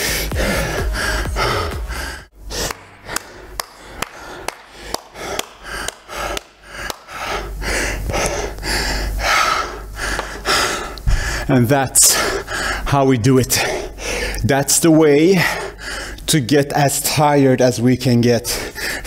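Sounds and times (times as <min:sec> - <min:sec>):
man gasping breathing: 0:00.0 - 0:12.9, 0:13.5 - 0:14.4, 0:15.3 - 0:16.3, 0:18.5 - 0:19.0.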